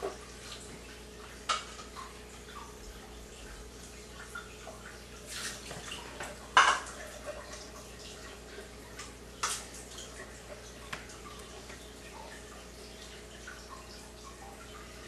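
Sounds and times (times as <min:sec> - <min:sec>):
water running into sink: 0:00.0 - 0:15.0.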